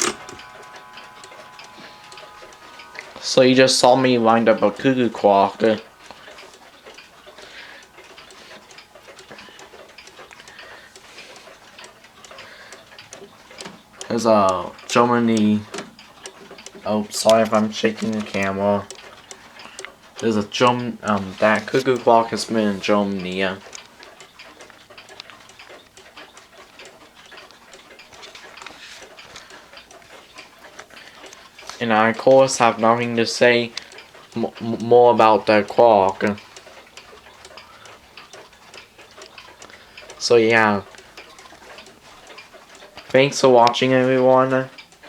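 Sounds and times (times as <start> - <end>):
clock pendulum ticking: 0.0 - 45.0.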